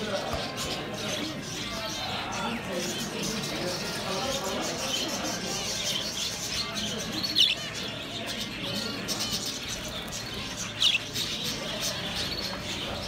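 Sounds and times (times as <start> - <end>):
background hubbub: 0.0 - 13.0
budgerigars chirping: 0.0 - 13.0.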